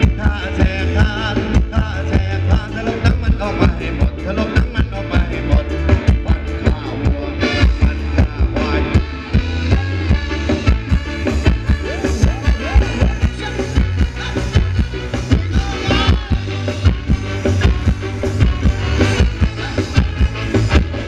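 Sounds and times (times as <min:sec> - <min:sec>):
bass line: 0:00.0 - 0:21.0
live band dance music: 0:00.0 - 0:21.0
steady drum beat: 0:00.0 - 0:21.0.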